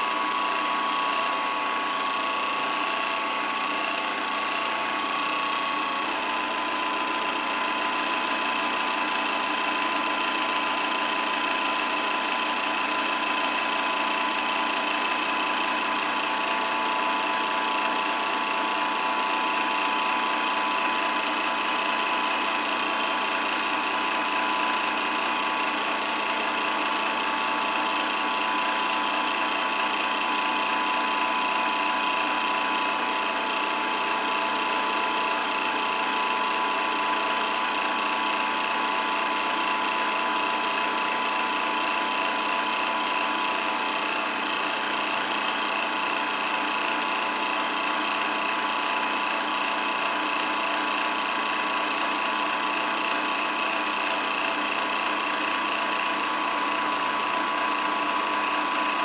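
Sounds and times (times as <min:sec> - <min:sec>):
film projector whirring: 0:00.0 - 0:59.0.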